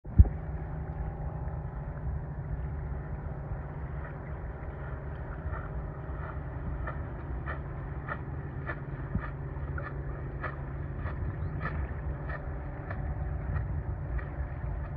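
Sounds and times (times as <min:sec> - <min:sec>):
wind rumble on microphone: 0:00.0 - 0:14.9
light water splashes: 0:00.1 - 0:14.9.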